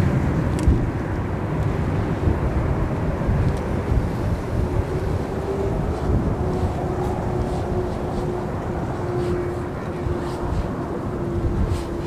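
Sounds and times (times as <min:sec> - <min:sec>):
faint engine whine: 0:00.0 - 0:12.0
jet engines rumbling: 0:00.0 - 0:12.0.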